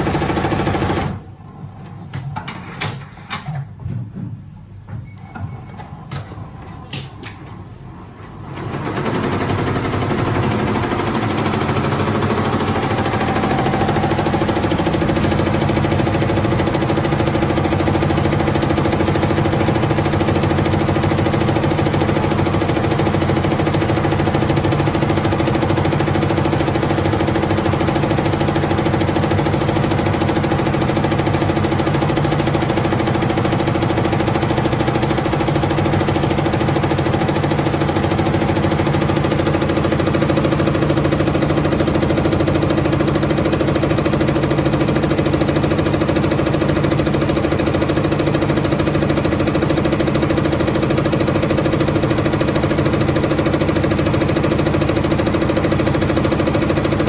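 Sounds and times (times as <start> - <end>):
embroidery machine stitching: 0.0 - 1.2, 8.3 - 57.0.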